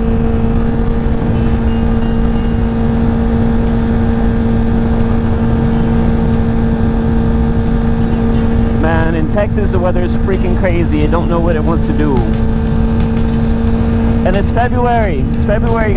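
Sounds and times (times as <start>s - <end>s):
motorcycle engine drone: 0.0s - 15.9s
wind noise on microphone: 0.0s - 15.9s.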